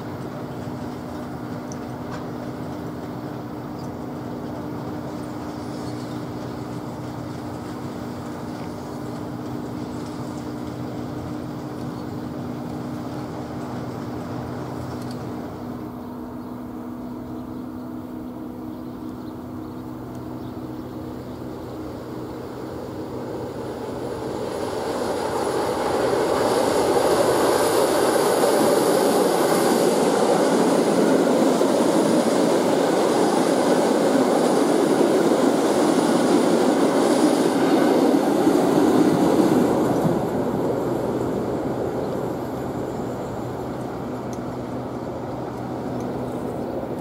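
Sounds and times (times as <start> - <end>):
electric train passing: 0.0 - 47.0.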